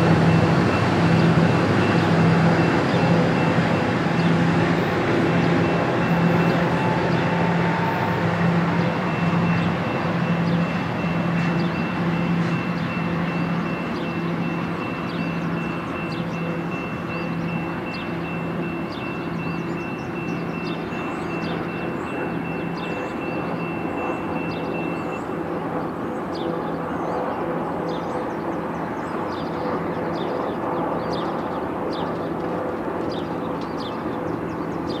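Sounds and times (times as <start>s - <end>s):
passenger train rumble: 0.0s - 35.0s
birds chirping: 0.1s - 35.0s.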